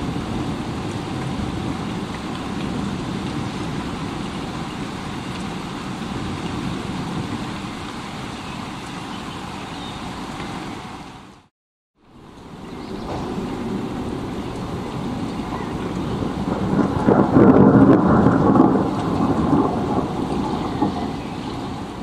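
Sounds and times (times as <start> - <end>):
rushing rain: 0.0 - 22.0.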